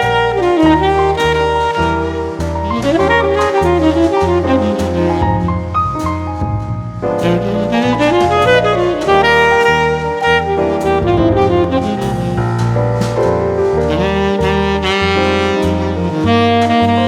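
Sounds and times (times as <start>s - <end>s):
saxophone melody: 0.0s - 6.4s, 7.1s - 17.0s
piano: 0.0s - 17.0s
walking bass: 0.0s - 17.0s.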